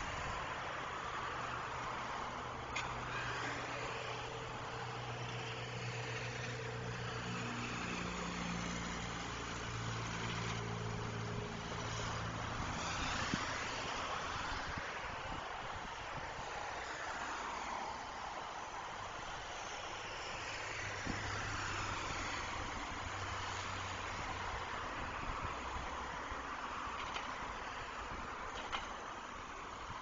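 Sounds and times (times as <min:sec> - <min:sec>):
cars passing with tyre noise: 0:00.0 - 0:30.0
engine hum of idling vehicles: 0:00.0 - 0:30.0.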